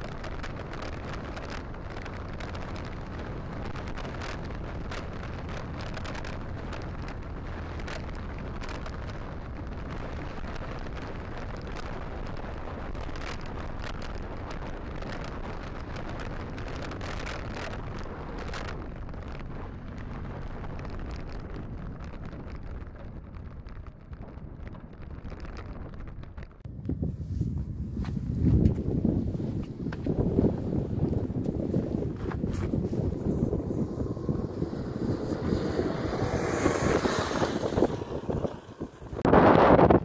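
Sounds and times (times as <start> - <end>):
motorcycle engine rumble: 0.0 - 40.0
wind rushing over microphone: 0.0 - 40.0.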